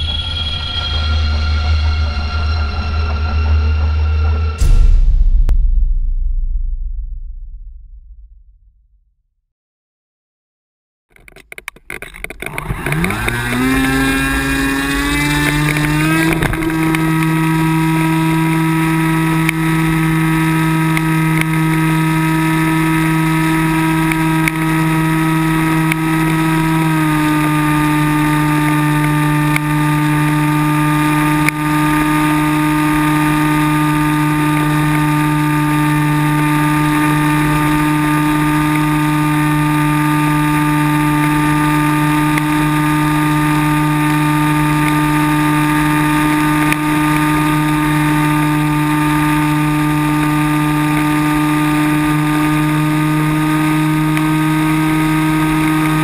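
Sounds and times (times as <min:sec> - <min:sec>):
electric motor and propeller whine: 0:00.0 - 0:04.7, 0:11.2 - 0:56.0.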